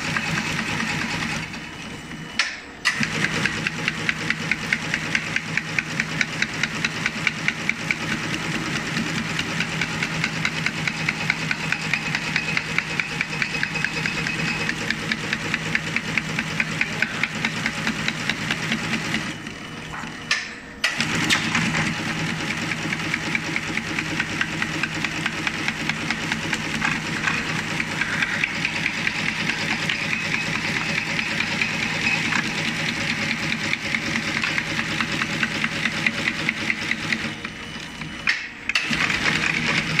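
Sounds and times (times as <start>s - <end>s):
machine hum: 0.0s - 40.0s
machine mechanical strokes: 0.0s - 40.0s.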